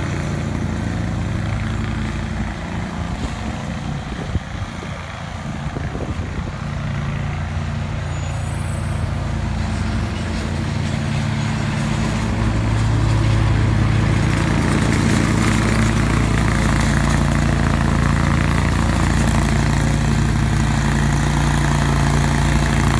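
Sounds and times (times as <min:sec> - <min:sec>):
lawn mower engine running: 0:00.0 - 0:22.9.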